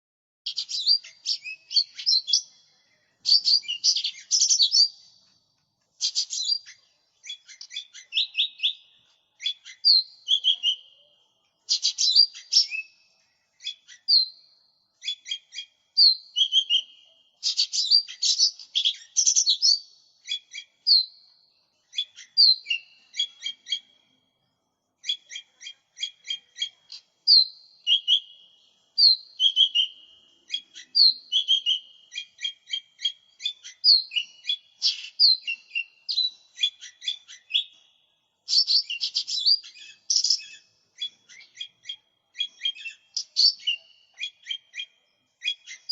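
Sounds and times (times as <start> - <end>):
bird singing chirps and trills: 0.5 - 5.3, 6.0 - 45.9.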